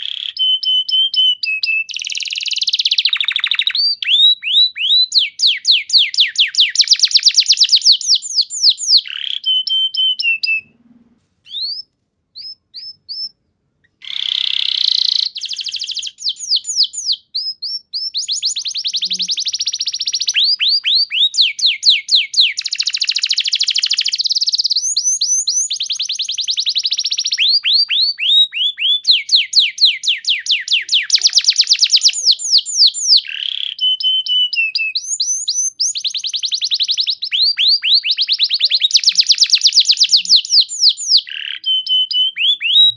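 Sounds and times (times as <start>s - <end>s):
canary singing trills: 0.0s - 10.8s, 11.4s - 42.9s.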